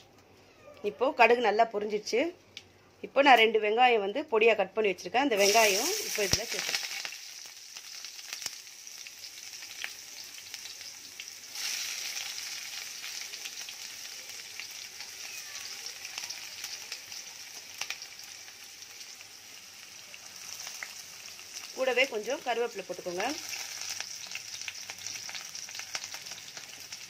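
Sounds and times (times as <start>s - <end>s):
onions sizzling in oil: 5.3s - 27.0s.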